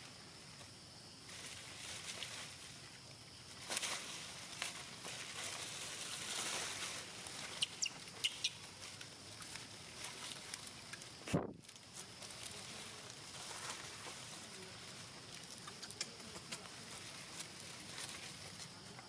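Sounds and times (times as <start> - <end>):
rustling: 0.5 - 19.0.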